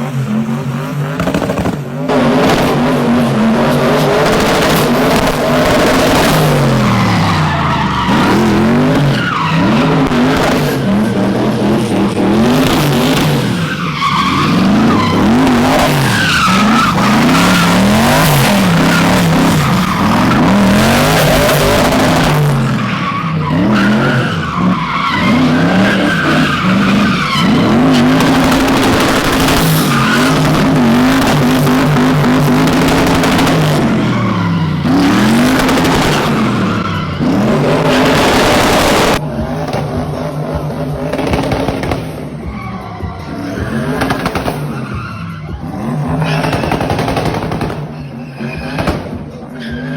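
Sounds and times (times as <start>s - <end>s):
car engine revving: 0.0s - 49.9s
tires skidding and squealing: 0.0s - 49.9s.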